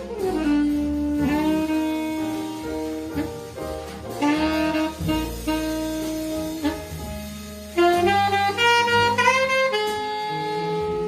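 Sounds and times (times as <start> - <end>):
alto saxophone ballad melody: 0.0 - 11.0.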